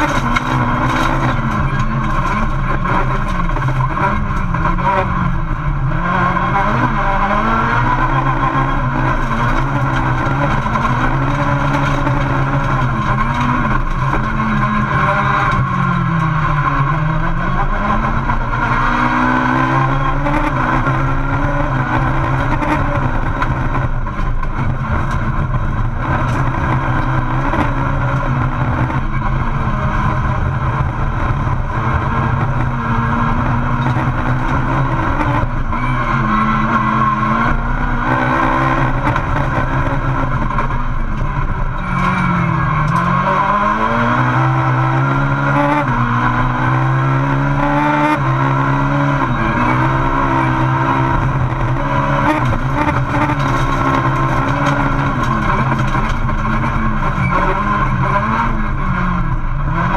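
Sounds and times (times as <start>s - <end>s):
car engine racing: 0.0s - 59.9s.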